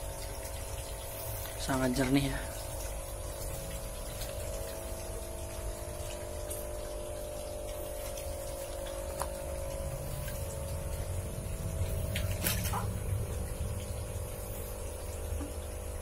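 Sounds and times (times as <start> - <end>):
pond pump humming: 0.0 - 16.0
water rushing: 0.0 - 16.0.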